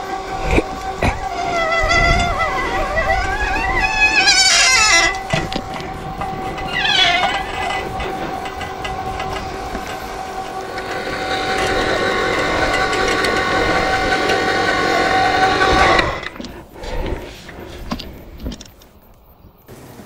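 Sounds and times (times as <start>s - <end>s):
electric winch motor whining: 0.0s - 19.2s
scrapes and clicks: 0.0s - 19.6s.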